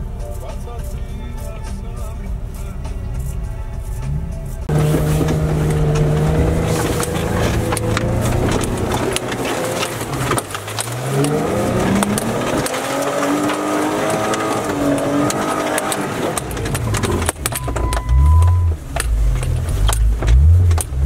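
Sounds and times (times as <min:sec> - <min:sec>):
vehicle engine revving: 0:01.2 - 0:21.0
knocks and rattles: 0:04.0 - 0:21.0.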